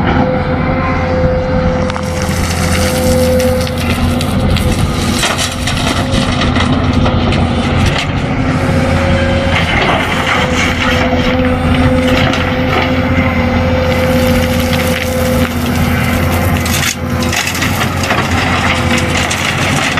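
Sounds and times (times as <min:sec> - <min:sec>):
material crackling and scraping: 0:01.8 - 0:08.2, 0:09.1 - 0:19.9.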